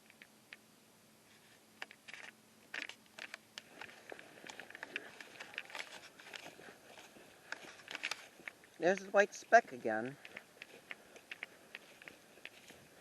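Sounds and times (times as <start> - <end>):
footsteps crunching on dry ground: 1.3 - 13.0.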